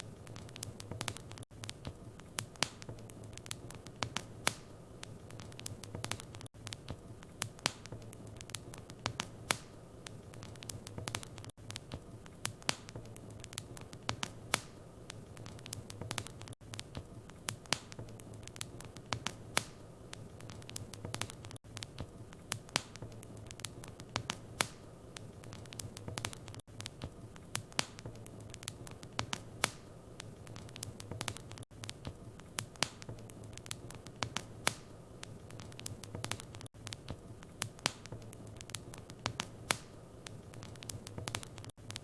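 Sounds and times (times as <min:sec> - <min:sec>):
fire crackling with pops: 0:00.0 - 0:42.0.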